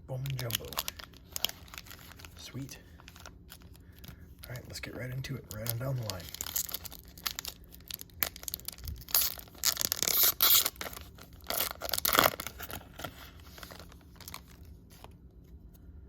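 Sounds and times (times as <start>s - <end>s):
wrapper tearing and crinkling: 0.1s - 4.1s, 5.5s - 15.1s
rustling of handling: 0.2s - 4.7s, 5.3s - 15.9s.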